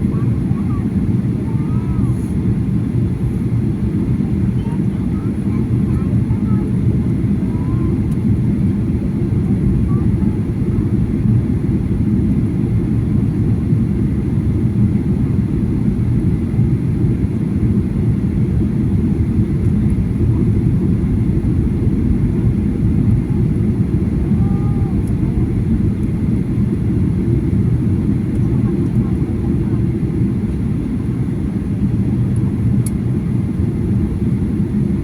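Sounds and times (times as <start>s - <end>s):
jet engine cabin rumble: 0.0s - 35.0s.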